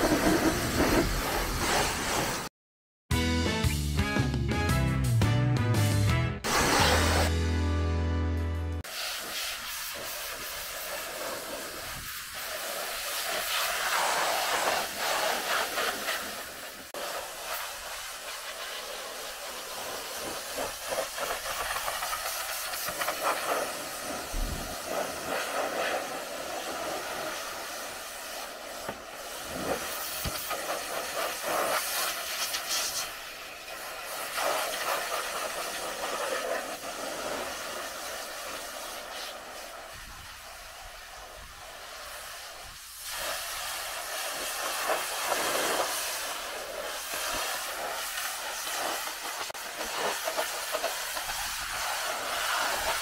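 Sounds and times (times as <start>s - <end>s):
pressure washer spraying: 0.0s - 2.5s, 6.4s - 7.4s, 8.9s - 53.0s.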